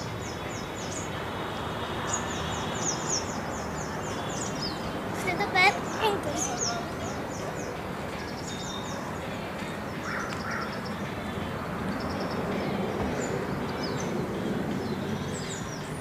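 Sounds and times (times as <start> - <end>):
low outdoor background noise: 0.0 - 16.0
small birds chirping: 0.0 - 16.0.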